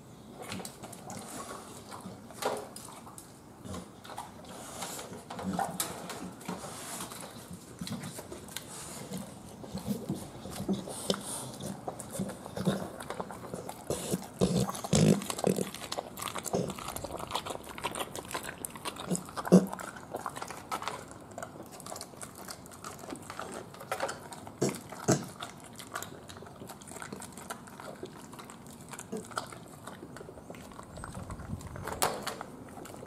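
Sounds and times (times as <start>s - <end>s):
dog wet chewing and licking: 0.4s - 33.0s.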